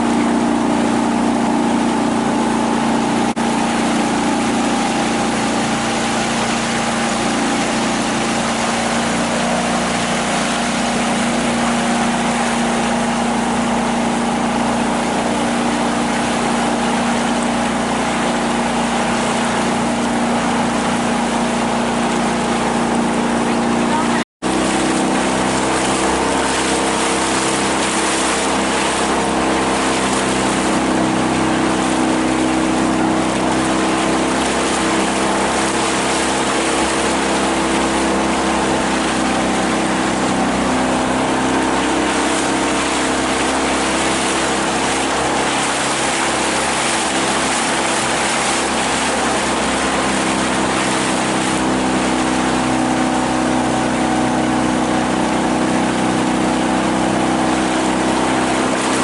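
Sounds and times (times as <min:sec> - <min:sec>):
outboard motor running: 0:00.0 - 0:59.0
water rushing: 0:00.0 - 0:59.0
wind: 0:00.0 - 0:59.0.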